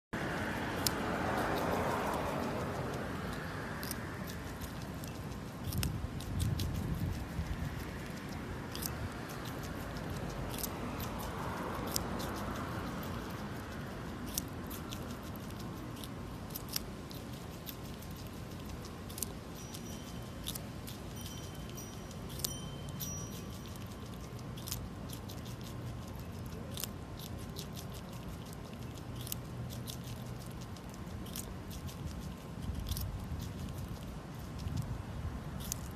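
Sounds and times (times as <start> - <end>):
squirrel crunching carrot: 0.1 - 35.9
steady low rumble: 0.1 - 35.9.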